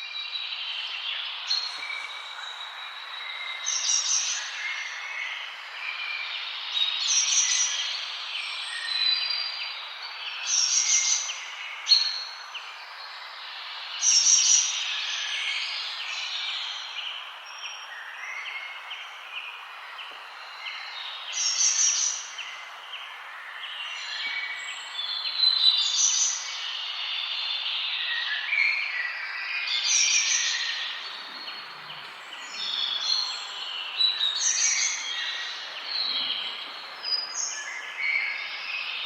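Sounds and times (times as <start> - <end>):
forest birds singing and chirping: 0.0 - 39.0
steady background hiss: 0.0 - 39.0.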